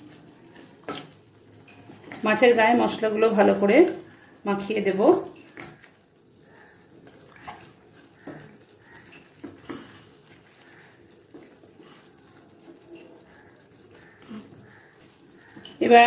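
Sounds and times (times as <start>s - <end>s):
wet sauce sloshing in pan: 0.0s - 16.0s.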